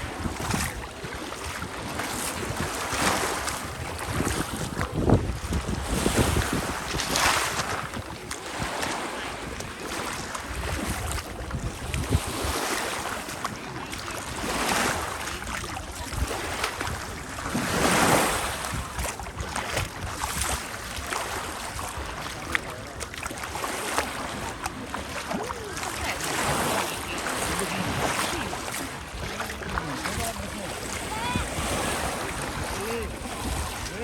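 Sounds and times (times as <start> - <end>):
small waves breaking on shore: 0.0 - 34.0
wind rumbling on microphone: 0.0 - 34.0.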